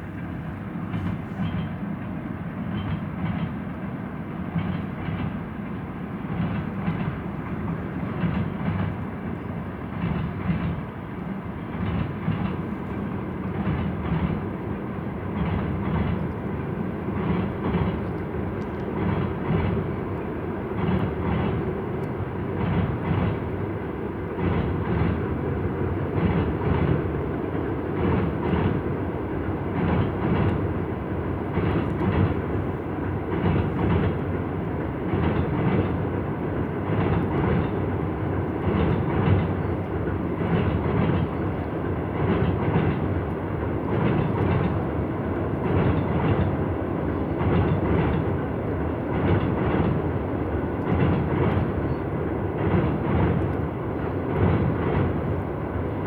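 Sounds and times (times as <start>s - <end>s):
train wheels clattering over rail joints: 0.0s - 3.8s, 4.4s - 23.6s, 24.4s - 55.5s.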